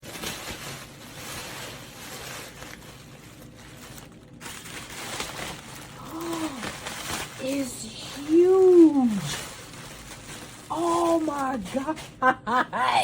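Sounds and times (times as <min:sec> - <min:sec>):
cardboard packaging rustling: 0:00.0 - 0:12.3.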